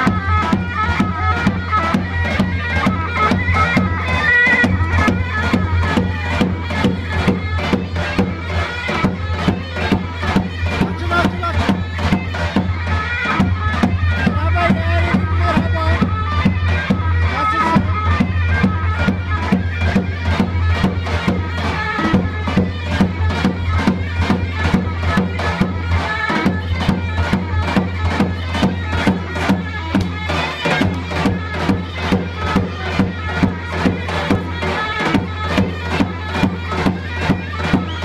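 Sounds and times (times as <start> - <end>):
reedy wind-instrument melody: 0.0 - 38.0
steady drum beat: 0.0 - 38.0.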